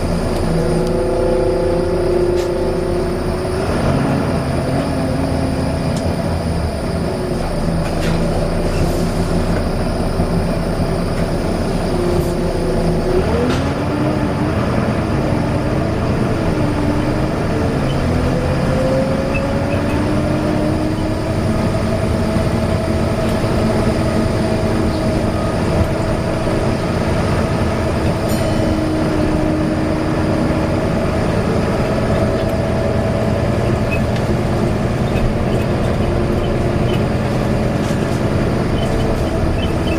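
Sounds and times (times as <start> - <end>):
bus engine rumble with whine: 0.0 - 39.9.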